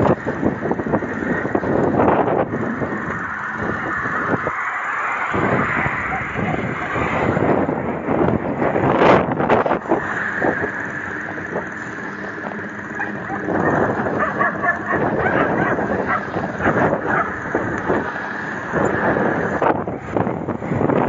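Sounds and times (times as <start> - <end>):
motor vehicle engine running: 0.0 - 21.0
road traffic noise: 0.0 - 21.0
wind buffeting microphone: 0.0 - 21.0.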